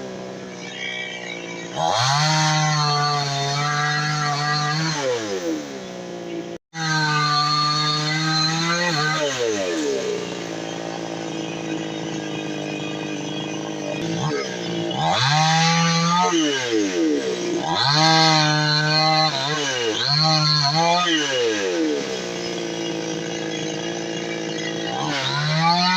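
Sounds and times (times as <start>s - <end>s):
chainsaw engine revving and idling: 0.0s - 25.9s.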